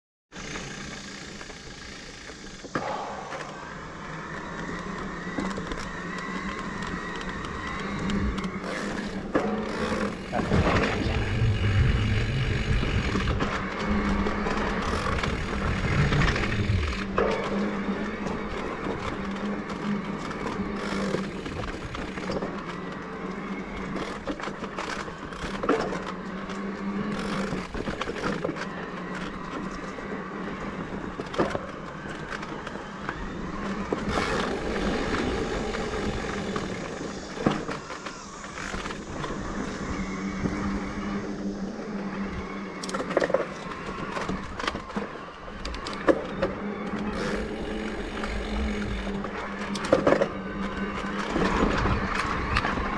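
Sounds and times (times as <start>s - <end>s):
electric bike motor hum: 0.3s - 52.9s
bike knocking and rattling: 0.4s - 52.9s
tyres rolling on dirt: 0.4s - 52.9s.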